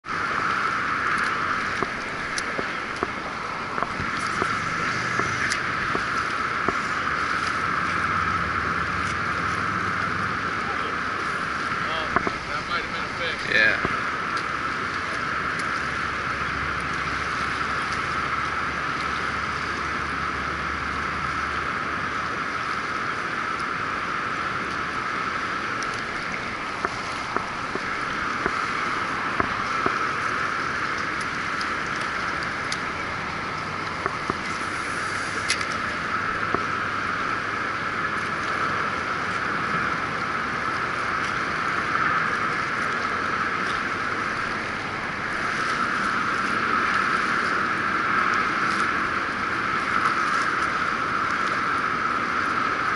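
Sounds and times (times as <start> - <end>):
fast river water rushing: 0.0 - 52.9.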